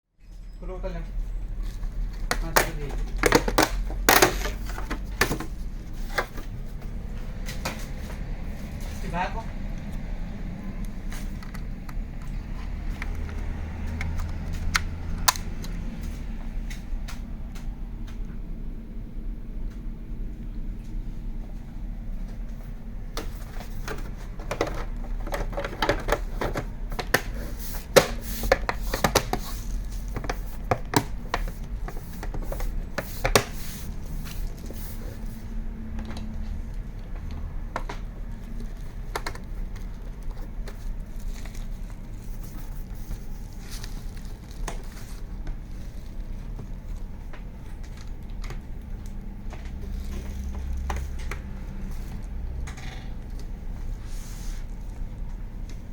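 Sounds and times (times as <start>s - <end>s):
steady low hum: 0.9s - 55.9s.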